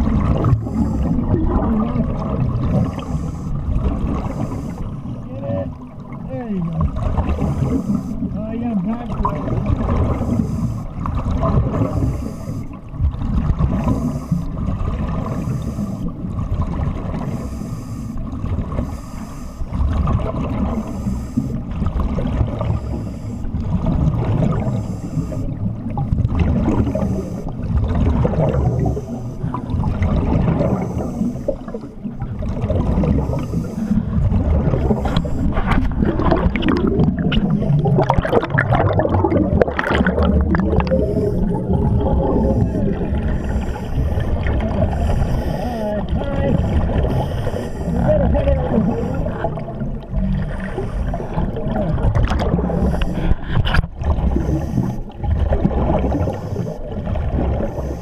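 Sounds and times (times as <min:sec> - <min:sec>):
exhaust bubbles gurgling: 0:00.0 - 0:58.0.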